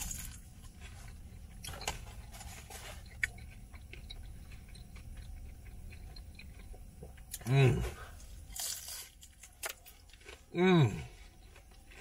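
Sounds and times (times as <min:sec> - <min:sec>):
low steady hum: 0:00.0 - 0:12.0
person chewing crispy food: 0:00.0 - 0:12.0.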